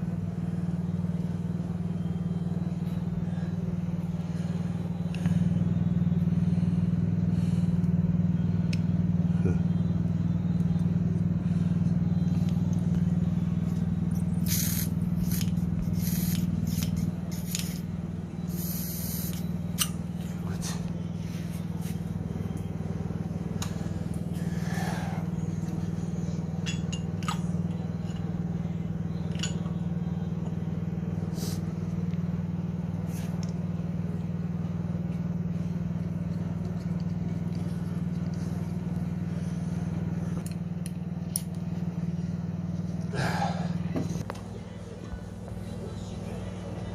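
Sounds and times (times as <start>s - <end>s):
small engine running: 0.0s - 46.9s.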